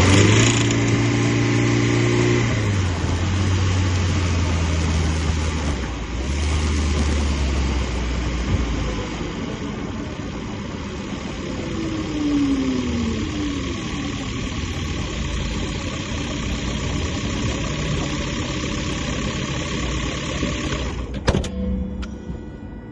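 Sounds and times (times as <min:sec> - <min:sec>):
car engine running: 0:00.0 - 0:22.9
falling whine: 0:00.0 - 0:22.9.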